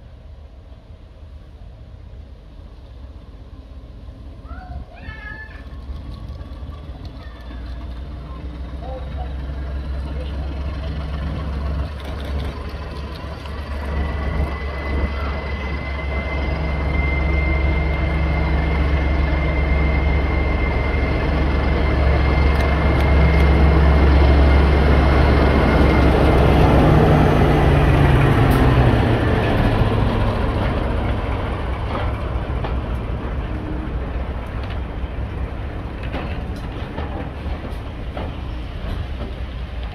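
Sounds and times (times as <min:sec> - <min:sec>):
diesel locomotive engine drone: 0:00.0 - 0:39.9
coaches rolling by: 0:04.0 - 0:39.9.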